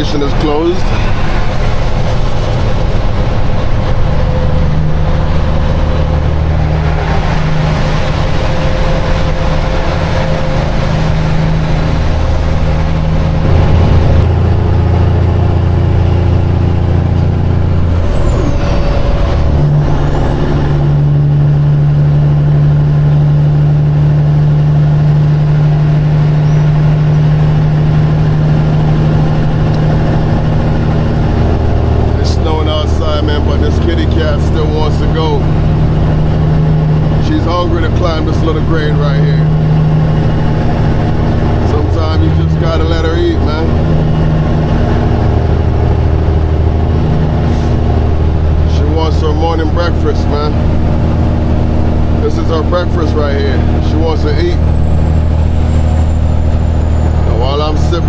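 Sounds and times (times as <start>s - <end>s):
truck diesel engine pulling: 0.0s - 58.0s.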